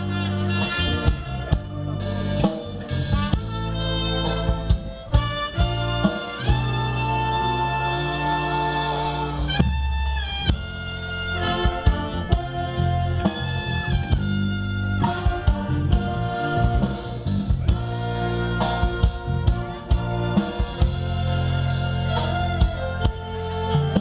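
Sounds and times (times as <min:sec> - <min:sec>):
orchestra playing: 0:00.0 - 0:24.0.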